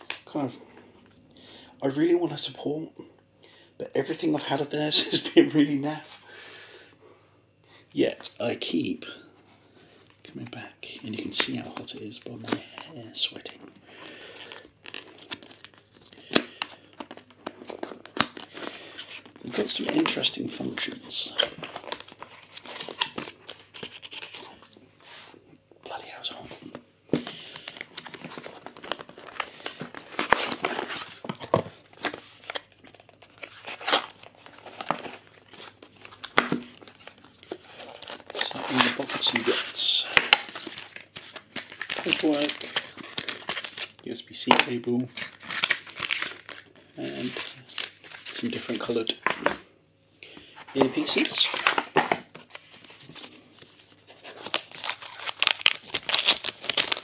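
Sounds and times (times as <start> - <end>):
crinkling rustles: 9.8 - 49.6, 50.3 - 57.0.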